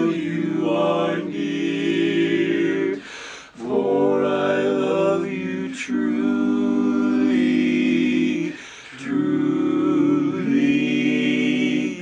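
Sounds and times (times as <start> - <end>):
men singing in harmony: 0.0 - 12.0.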